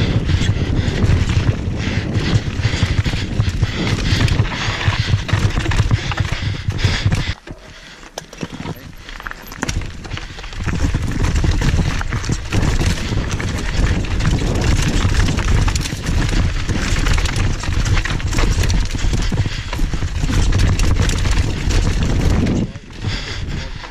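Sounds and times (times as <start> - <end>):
bike rattling and clattering: 0.0 - 23.9
bike tyres crunching over gravel: 0.0 - 23.9
constant low rumble: 0.0 - 23.9.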